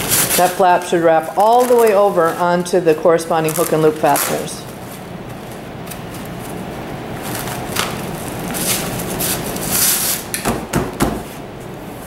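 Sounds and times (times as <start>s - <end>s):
fabric rustling and rasping: 0.0s - 10.3s.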